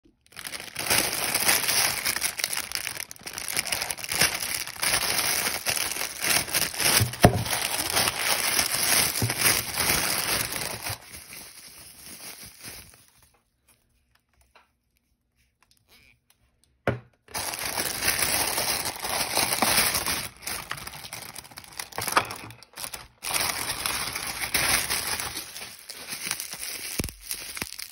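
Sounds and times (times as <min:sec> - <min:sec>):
plastic wrap crinkling: 0:00.1 - 0:16.0, 0:17.3 - 0:27.9.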